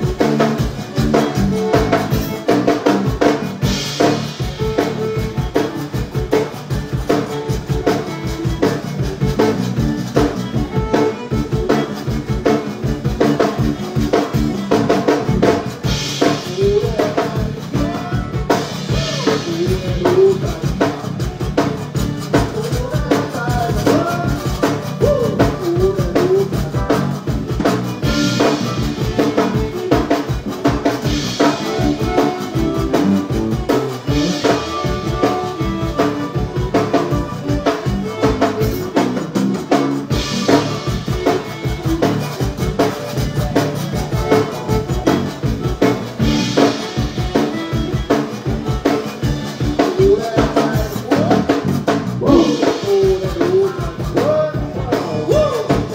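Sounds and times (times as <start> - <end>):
live band playing: 0.0 - 55.9.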